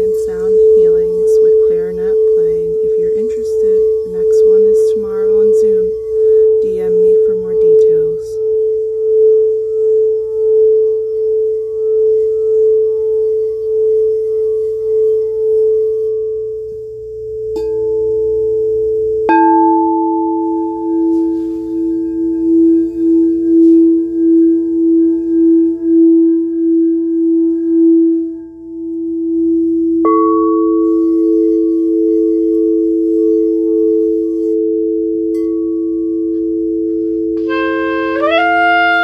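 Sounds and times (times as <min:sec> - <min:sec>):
singing bowl rubbed with wand: 0:00.0 - 0:19.3, 0:20.4 - 0:39.0
lower bowl struck and ringing: 0:00.0 - 0:39.0.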